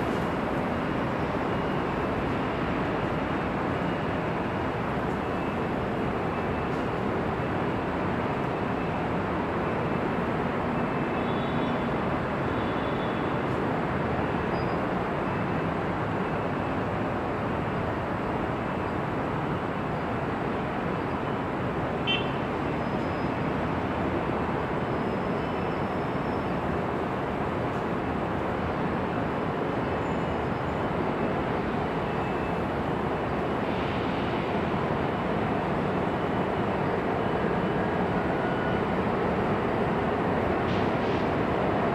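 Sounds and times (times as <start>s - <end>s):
freeway traffic passing: 0.0s - 41.9s.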